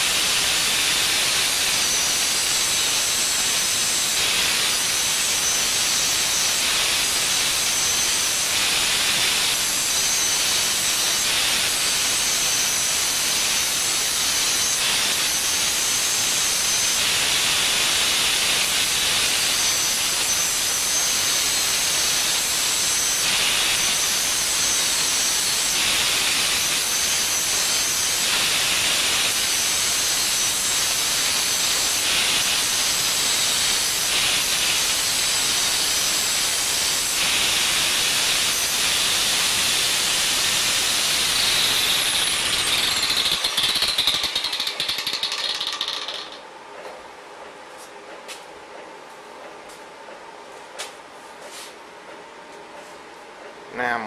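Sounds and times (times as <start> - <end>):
plasma cutter hissing: 0.0 - 45.9
thin high whine: 0.0 - 46.4.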